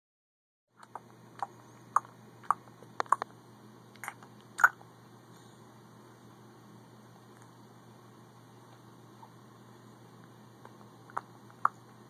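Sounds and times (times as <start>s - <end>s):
faint steady hum: 0.7s - 12.0s.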